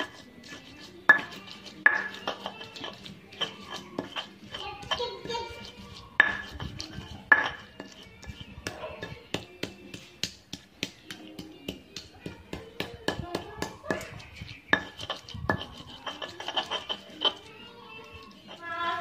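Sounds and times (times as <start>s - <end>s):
stone pestle grinding in mortar: 0.0s - 19.0s.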